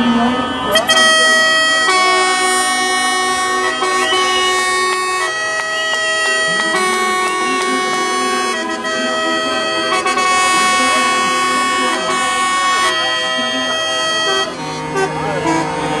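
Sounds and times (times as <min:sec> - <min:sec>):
low engine rumble: 0:00.0 - 0:16.0
truck air horns: 0:00.0 - 0:16.0.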